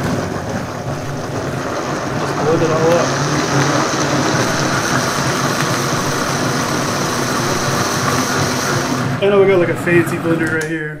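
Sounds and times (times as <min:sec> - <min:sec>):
blender running: 0:00.0 - 0:10.9.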